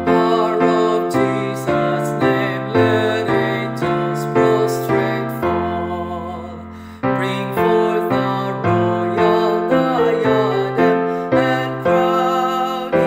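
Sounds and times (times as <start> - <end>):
piano playing hymn chords: 0.0 - 13.0.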